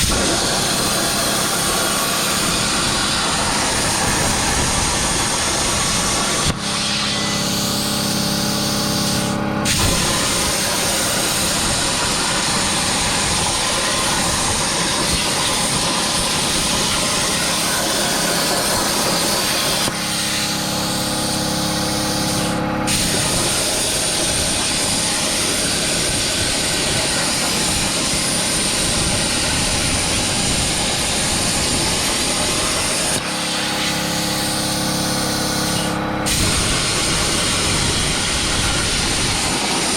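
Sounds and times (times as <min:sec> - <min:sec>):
plasma cutter arc hissing: 0:00.0 - 0:39.9
steady multi-tone hum: 0:00.0 - 0:39.9.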